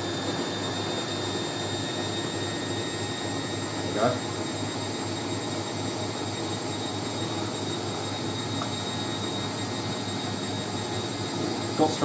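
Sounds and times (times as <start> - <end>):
faint high whining tones: 0.0 - 12.0
washing machine spinning: 0.0 - 12.0.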